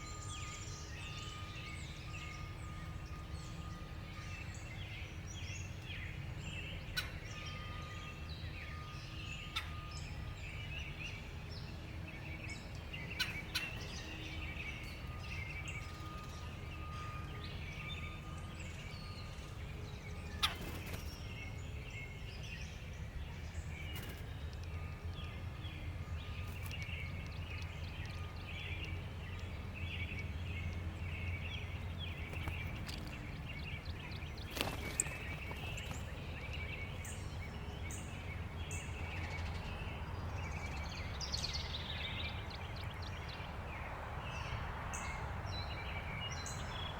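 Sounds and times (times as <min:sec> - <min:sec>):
small songbirds chirping: 0:00.0 - 0:46.9.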